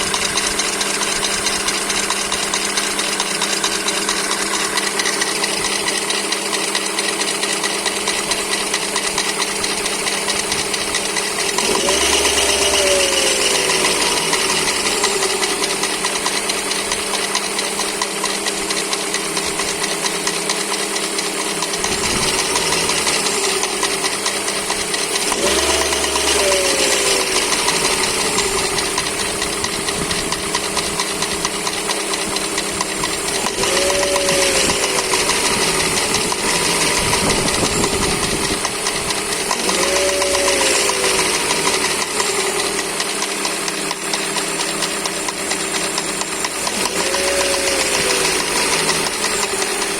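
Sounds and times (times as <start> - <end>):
engine knocking and revving: 0.0 - 49.9.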